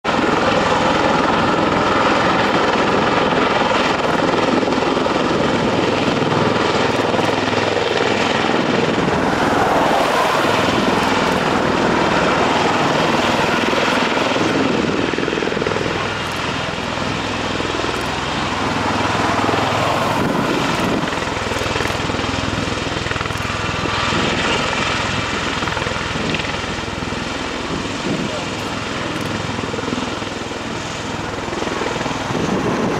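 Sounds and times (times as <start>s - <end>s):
tiltrotor aircraft engines and rotors: 0.0s - 32.9s.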